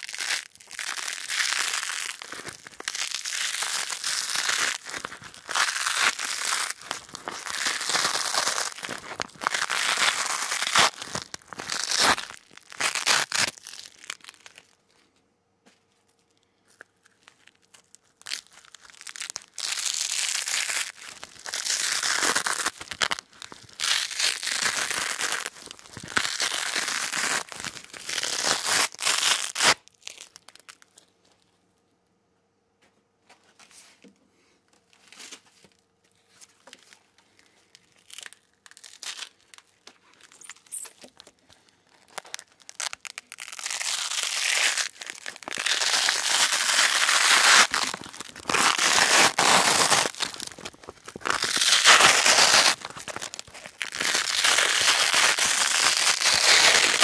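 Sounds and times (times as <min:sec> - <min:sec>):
velcro ripping: 0:00.0 - 0:14.7, 0:17.3 - 0:30.8, 0:38.0 - 0:57.0.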